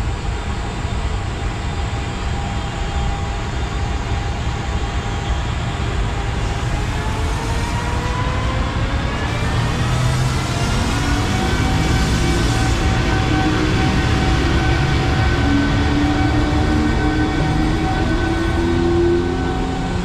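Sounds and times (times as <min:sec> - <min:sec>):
electric locomotive inverter whine: 0:00.0 - 0:20.0
low hum of blowers and motors: 0:00.0 - 0:20.0.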